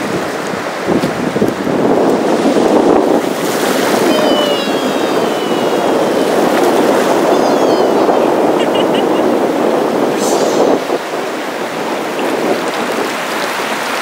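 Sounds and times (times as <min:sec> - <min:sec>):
ocean surf washing up: 0:00.0 - 0:14.0
wind buffeting microphone: 0:00.0 - 0:14.0.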